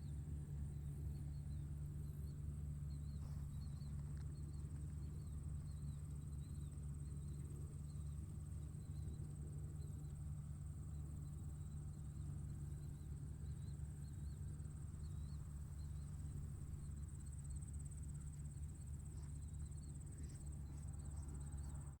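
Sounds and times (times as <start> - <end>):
tractor engine humming: 0.0 - 22.0
insects trilling and chirping: 0.6 - 22.0.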